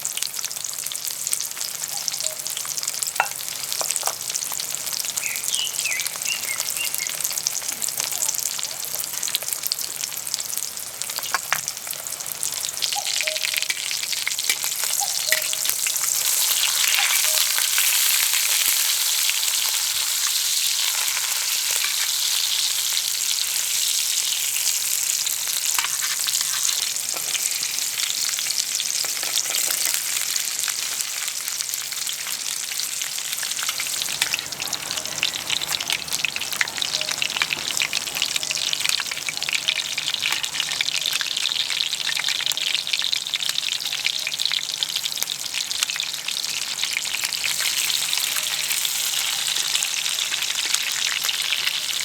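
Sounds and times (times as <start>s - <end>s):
food sizzling on a griddle: 0.0s - 52.0s.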